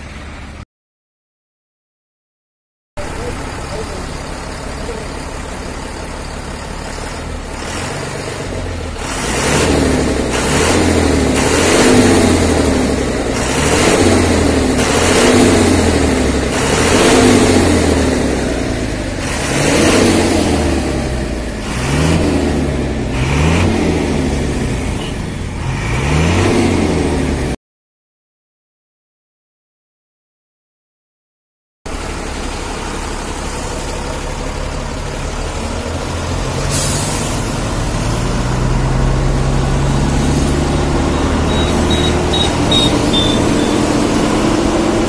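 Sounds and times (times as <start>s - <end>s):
diesel engine idling and revving: 0.0s - 0.6s, 3.0s - 27.6s, 31.9s - 45.0s.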